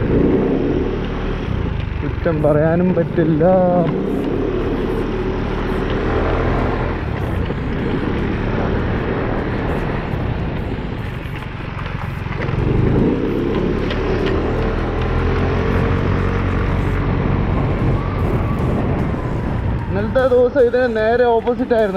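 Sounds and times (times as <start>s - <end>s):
scooter engine running: 0.0s - 20.1s
wind and road noise: 0.0s - 21.9s.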